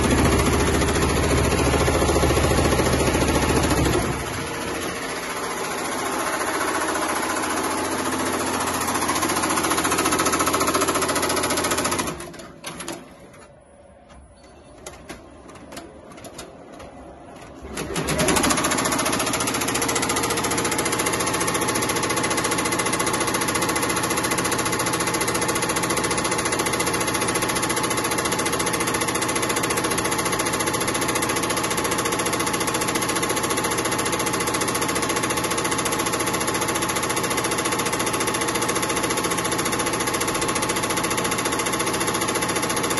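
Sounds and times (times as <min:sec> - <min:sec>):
embroidery machines stitching: 0:00.0 - 0:13.4, 0:15.5 - 0:42.9.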